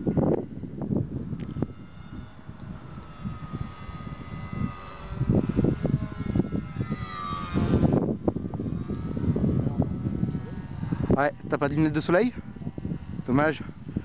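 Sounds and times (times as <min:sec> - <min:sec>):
model airplane motor whining: 0:00.0 - 0:14.0
wind buffeting microphone: 0:00.0 - 0:14.0.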